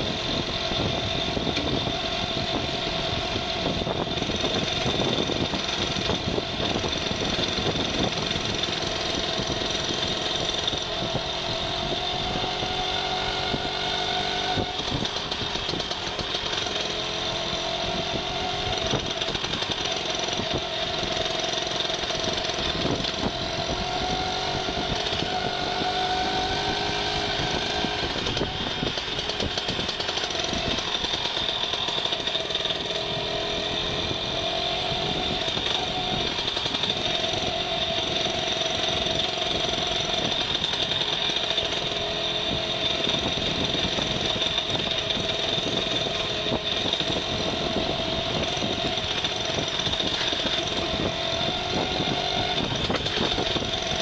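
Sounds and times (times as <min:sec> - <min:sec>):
vehicle engine running: 0:00.0 - 0:54.0
wind and road noise: 0:00.0 - 0:54.0.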